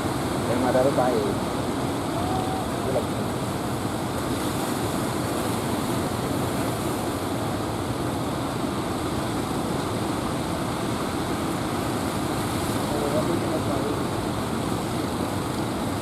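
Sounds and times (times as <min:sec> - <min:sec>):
ocean surf rushing: 0:00.0 - 0:16.0.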